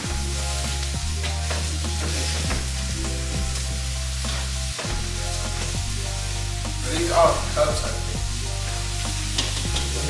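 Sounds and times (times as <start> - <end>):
food sizzling in a pan: 0.0 - 10.0
music with deep bass notes: 0.0 - 10.0.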